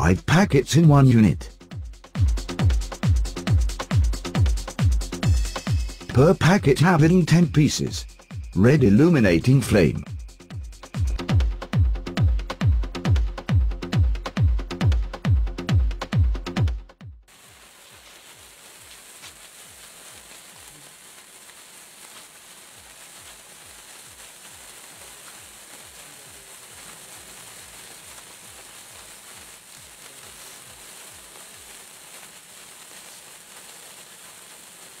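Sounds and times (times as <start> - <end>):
sparkler fizzing hiss: 0.1 - 13.1, 17.3 - 35.0.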